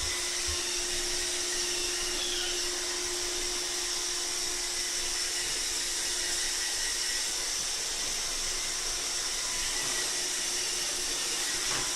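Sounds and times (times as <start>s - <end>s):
robot vacuum running: 0.0s - 11.9s.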